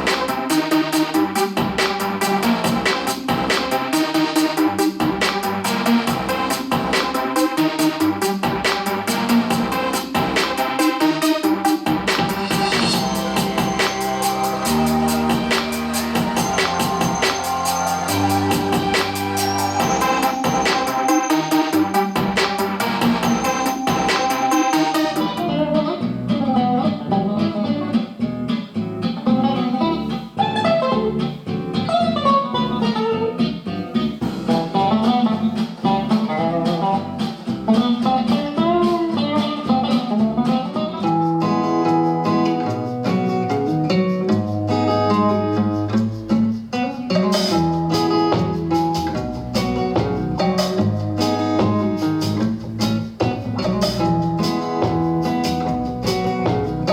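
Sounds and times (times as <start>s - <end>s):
guitar music through speaker: 0.0s - 56.9s.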